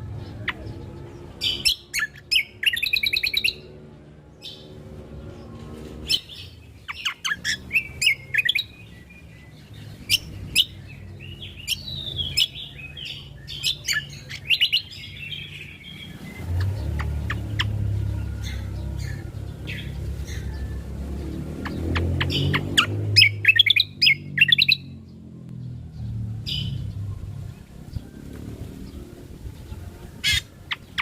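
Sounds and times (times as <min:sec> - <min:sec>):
bird singing chirps and trills: 0:00.0 - 0:31.0.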